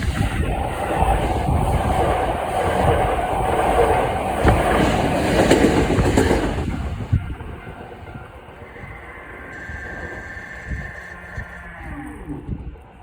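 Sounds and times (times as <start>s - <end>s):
wheels clacking over rail joints: 0.0s - 12.0s
electric train rolling past: 0.0s - 13.0s.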